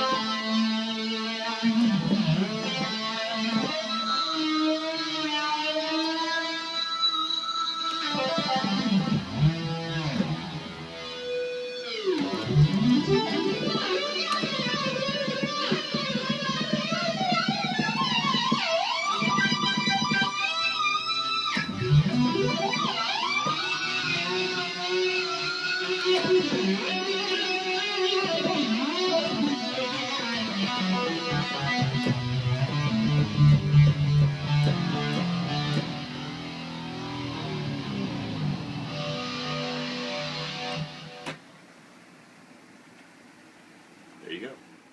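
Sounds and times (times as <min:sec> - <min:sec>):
distorted synth lead solo: 0:01.7 - 0:41.3.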